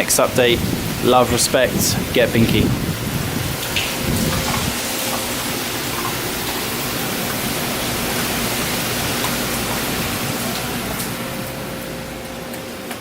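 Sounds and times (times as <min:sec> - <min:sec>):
hurricane rain and wind: 0:00.0 - 0:13.0.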